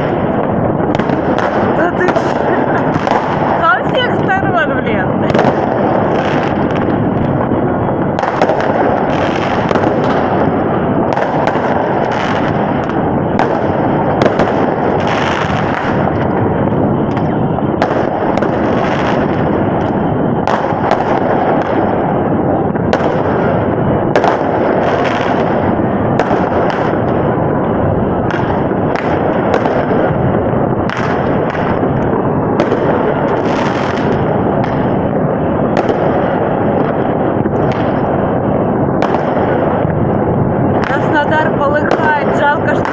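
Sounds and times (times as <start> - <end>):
sharp single firework bangs: 0.0 - 3.6, 5.3 - 27.5, 28.2 - 40.0
fireworks bangs and crackles: 0.0 - 42.9.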